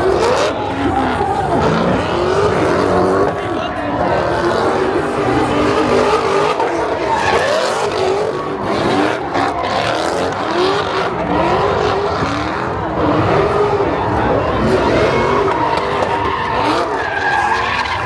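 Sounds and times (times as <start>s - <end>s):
car engines revving: 0.0s - 18.0s
tyres squealing and skidding: 0.0s - 18.0s.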